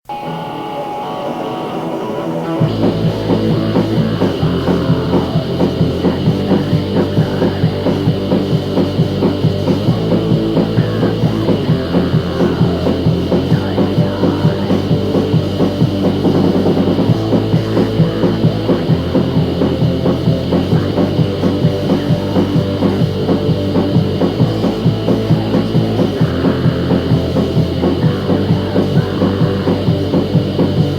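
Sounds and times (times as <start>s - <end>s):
rock band with drum kit: 0.1s - 30.9s.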